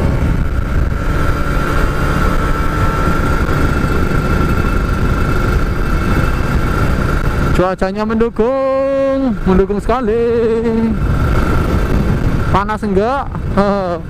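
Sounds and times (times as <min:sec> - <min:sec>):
two-stroke motorcycle engine running: 0:00.0 - 0:14.0.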